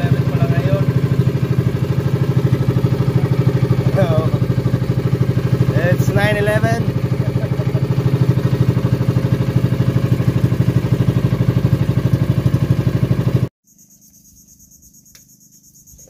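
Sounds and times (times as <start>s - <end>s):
boat engine running: 0.0s - 13.5s.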